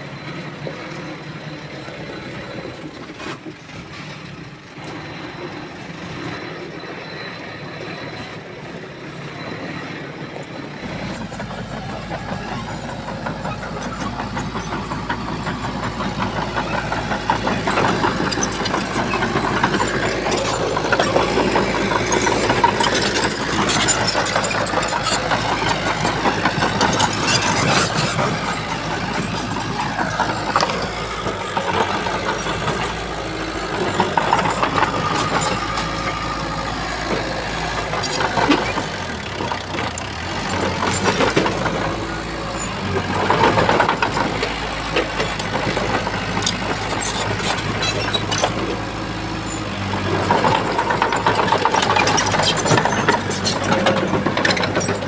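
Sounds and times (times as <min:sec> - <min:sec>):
diesel engine of heavy machinery: 0:00.0 - 0:55.0
clanks and rattles: 0:10.8 - 0:55.0.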